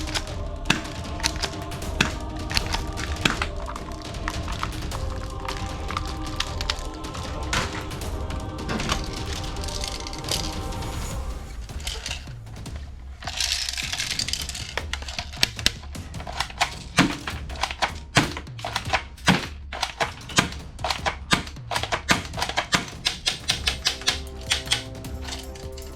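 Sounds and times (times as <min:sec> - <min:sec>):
background music: 0:00.0 - 0:25.9.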